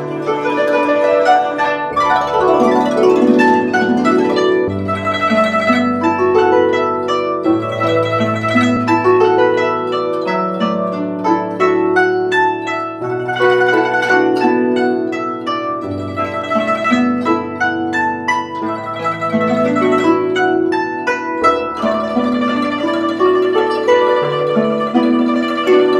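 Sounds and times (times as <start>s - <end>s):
zither plucked melody: 0.0s - 25.9s.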